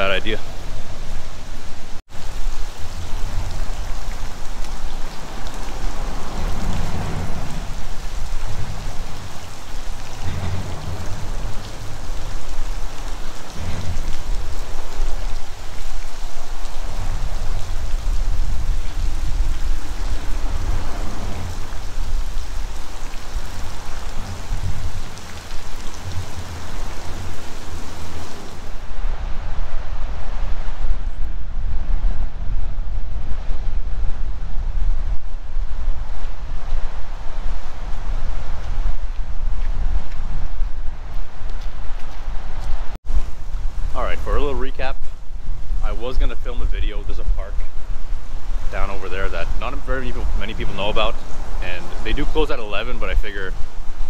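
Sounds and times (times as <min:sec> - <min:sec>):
freezing rain hiss and patter: 0:00.0 - 0:54.0
heavy low rumble: 0:02.2 - 0:41.4, 0:43.1 - 0:53.7.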